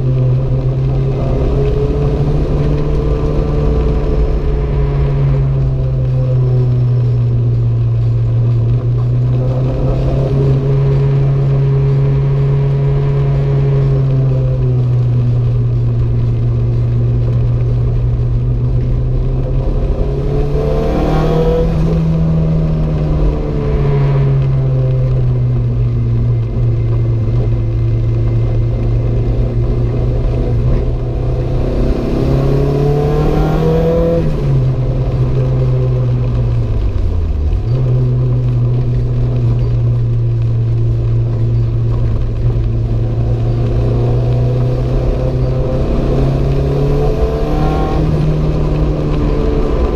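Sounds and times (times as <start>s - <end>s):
tyre and road noise: 0.0s - 49.9s.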